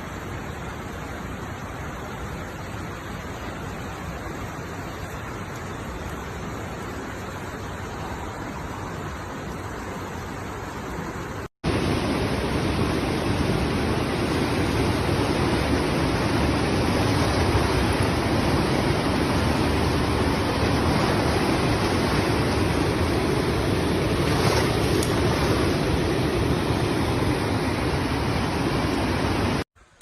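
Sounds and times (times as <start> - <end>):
fast-flowing floodwater rushing: 0.0 - 29.6.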